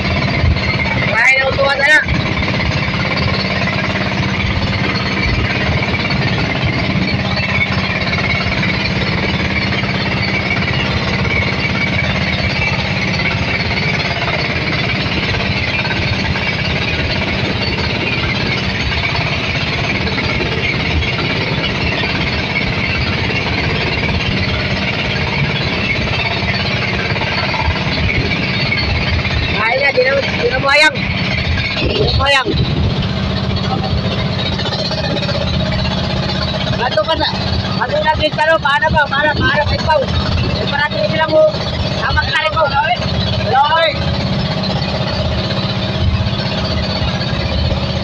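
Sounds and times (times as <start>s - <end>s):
boat engine knocking: 0.0s - 48.0s.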